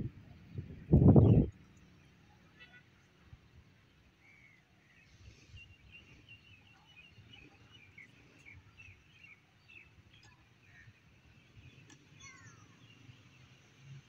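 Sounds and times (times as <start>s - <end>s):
small birds chirping: 0.5s - 14.0s.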